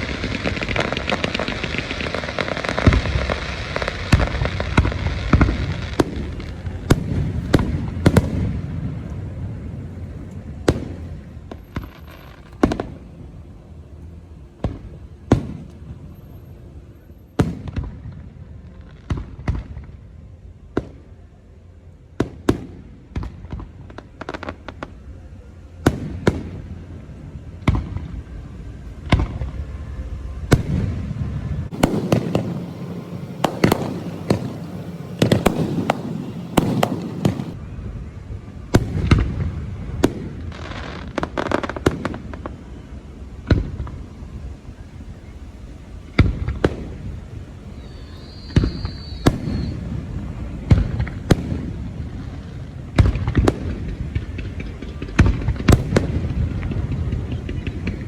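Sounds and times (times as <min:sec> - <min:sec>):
firecrackers bangs and pops: 0:00.0 - 0:13.2, 0:14.6 - 0:16.4, 0:17.4 - 0:21.2, 0:22.2 - 0:25.0, 0:25.9 - 0:28.3, 0:30.5 - 0:37.6, 0:38.7 - 0:42.8, 0:46.1 - 0:58.0.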